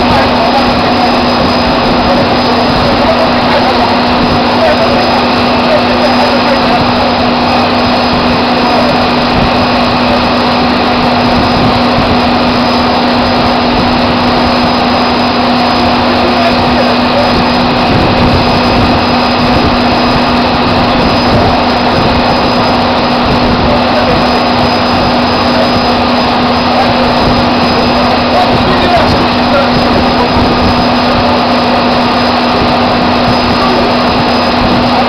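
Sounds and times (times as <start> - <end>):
drilling rig machinery drone: 0.0 - 35.0.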